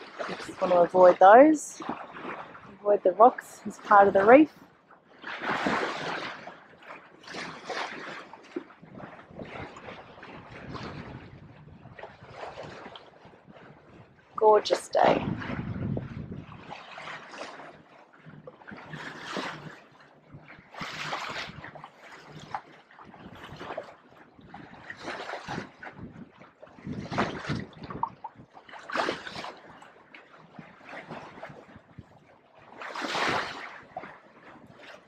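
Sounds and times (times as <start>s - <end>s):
water splashing along a hull: 0.0s - 35.0s.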